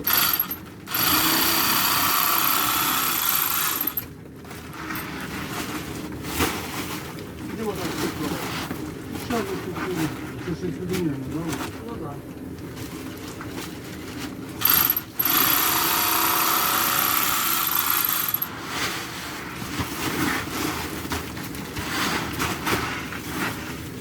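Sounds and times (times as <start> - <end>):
grain rattling through bagging machine: 0.0 - 12.2, 12.8 - 24.0.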